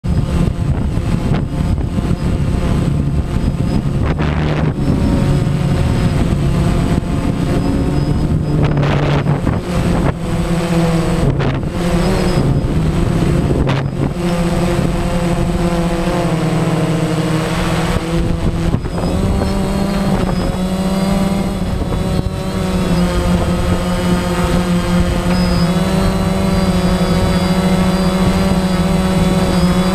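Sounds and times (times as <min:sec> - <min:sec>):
drone motors buzzing: 0:00.0 - 0:29.9.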